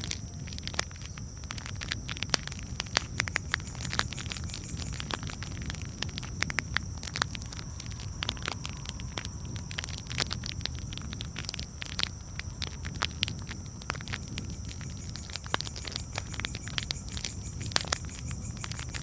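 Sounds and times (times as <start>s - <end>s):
low steady rumble: 0.0s - 19.0s
wood fire crackling: 0.1s - 19.0s.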